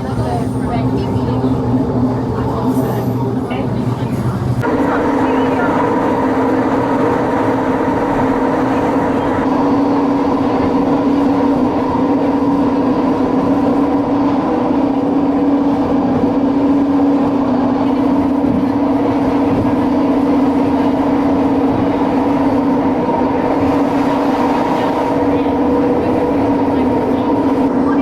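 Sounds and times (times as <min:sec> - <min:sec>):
train running hum: 0:00.0 - 0:28.0.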